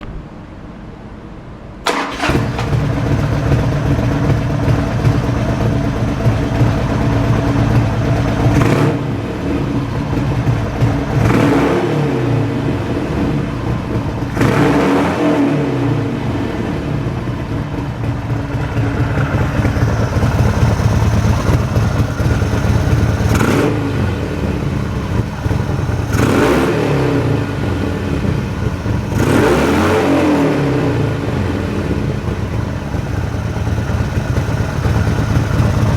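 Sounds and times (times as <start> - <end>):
motorcycle engine idling: 1.9 - 35.9.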